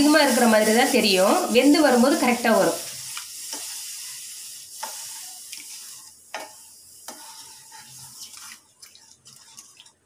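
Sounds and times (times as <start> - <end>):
sizzling hiss in a hot pan: 0.0 - 8.7
spatula stirring liquid: 1.8 - 10.0.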